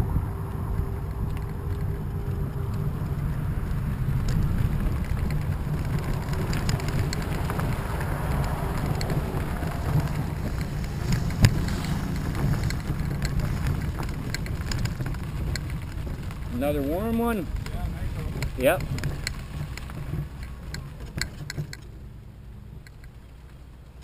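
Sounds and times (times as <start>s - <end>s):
wheels rumbling on pavement: 0.0s - 24.0s
stones crunching under wheels: 1.2s - 21.5s.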